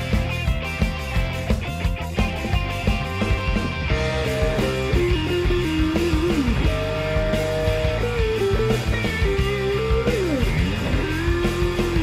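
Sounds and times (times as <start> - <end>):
sliding guitar instrumental: 0.0 - 12.0.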